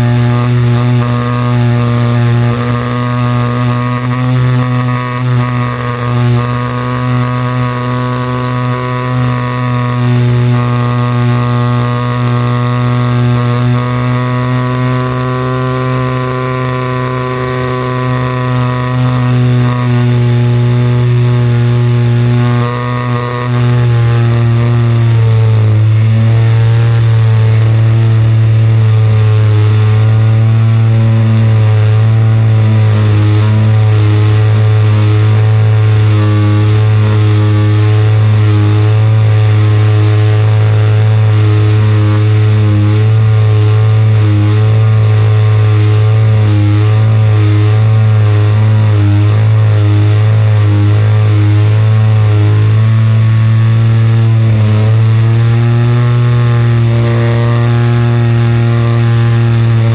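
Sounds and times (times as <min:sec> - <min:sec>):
model plane engine running: 0:00.0 - 0:59.9.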